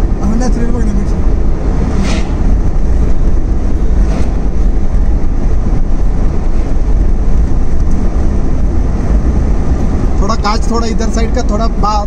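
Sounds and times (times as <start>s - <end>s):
car road and wind rumble: 0.0s - 12.0s.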